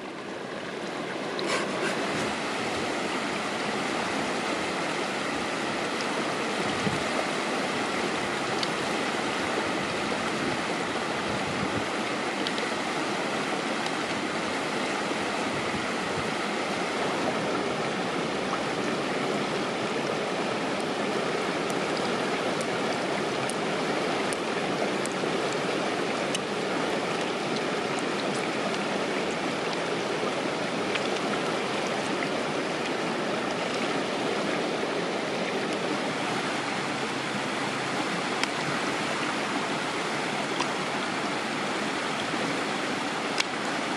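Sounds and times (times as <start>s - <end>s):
stream rushing over rapids: 0.0s - 43.9s.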